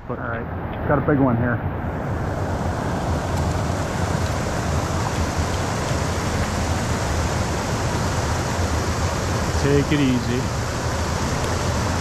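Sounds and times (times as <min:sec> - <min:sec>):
creek water over rocks: 0:02.1 - 0:12.0.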